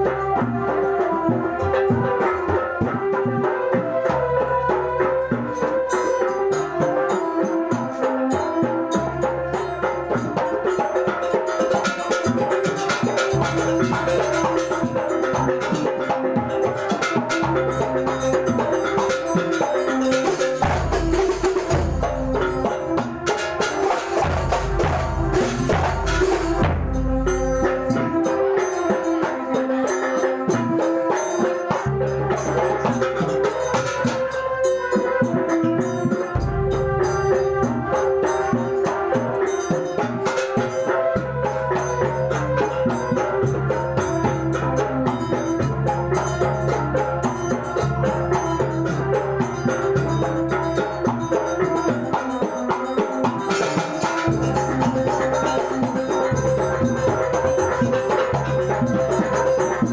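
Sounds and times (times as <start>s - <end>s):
hand drums: 0.0s - 59.9s.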